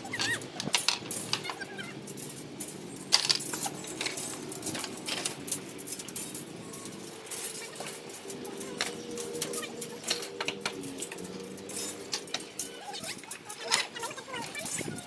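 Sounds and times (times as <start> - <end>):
metal rebar clinking: 0.0 - 15.0.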